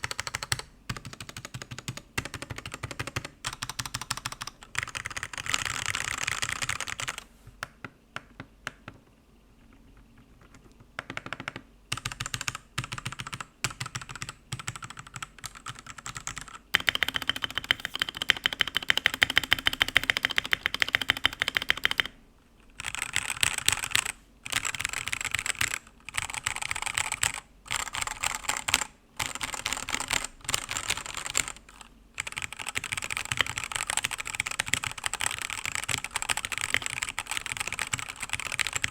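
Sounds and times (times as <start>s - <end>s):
typing on mechanical keyboard: 0.0s - 7.3s, 10.2s - 22.1s, 22.8s - 38.9s.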